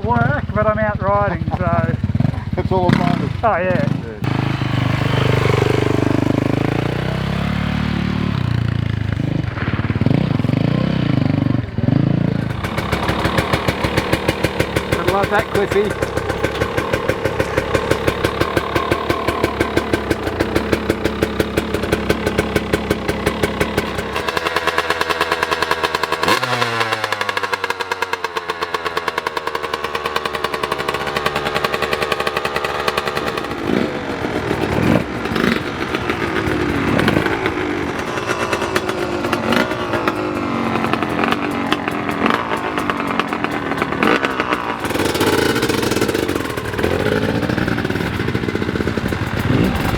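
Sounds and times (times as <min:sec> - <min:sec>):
motorcycle engines idling and revving: 0:00.0 - 0:49.9.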